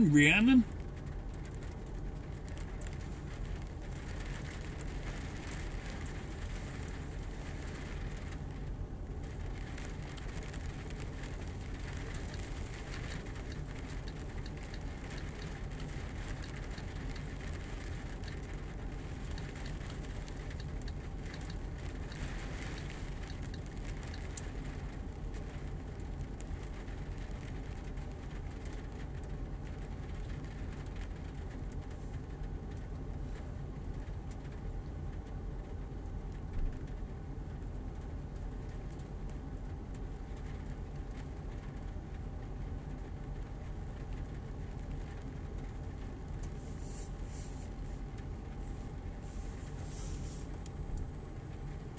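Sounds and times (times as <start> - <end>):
rain on puddles: 0.0 - 51.9.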